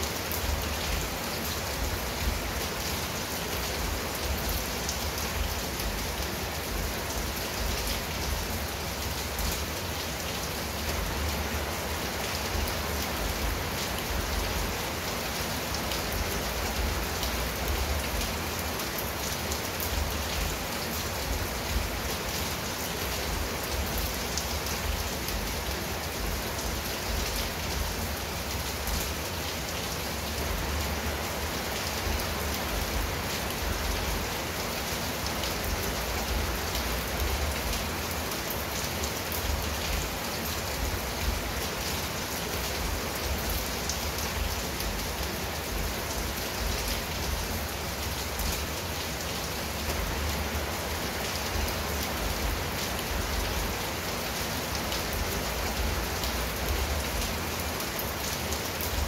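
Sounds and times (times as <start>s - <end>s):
rain on tile roof and shrubs: 0.0s - 59.0s.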